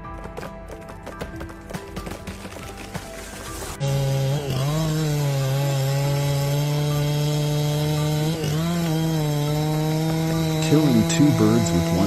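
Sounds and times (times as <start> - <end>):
chainsaw cutting wood: 2.0 - 12.0.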